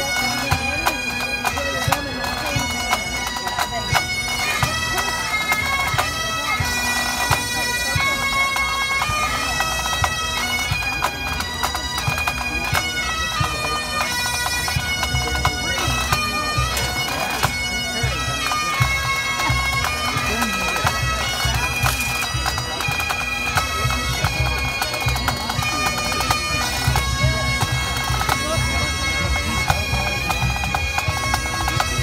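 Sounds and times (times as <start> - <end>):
bagpipes playing: 0.0 - 32.0
drums beating: 0.0 - 32.0.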